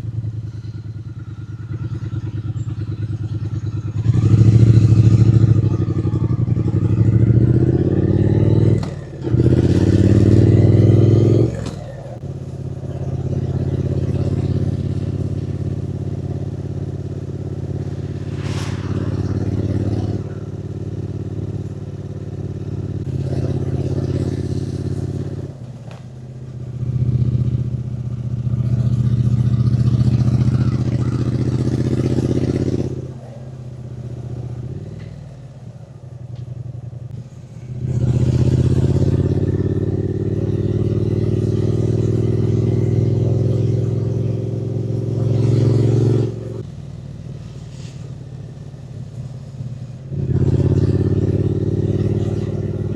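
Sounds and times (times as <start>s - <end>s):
motorcycle engine revving through gears: 0.0s - 52.9s.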